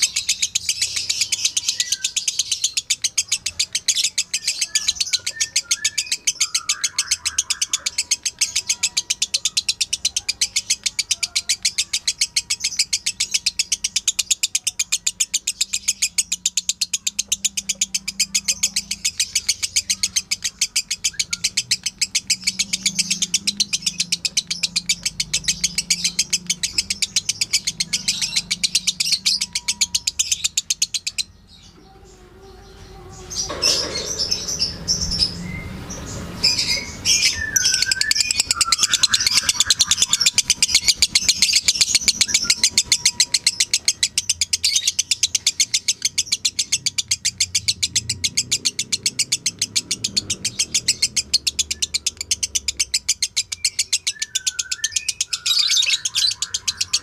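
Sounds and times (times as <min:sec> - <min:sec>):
lovebird chattering chirps: 0:00.0 - 0:31.8, 0:32.4 - 0:57.0.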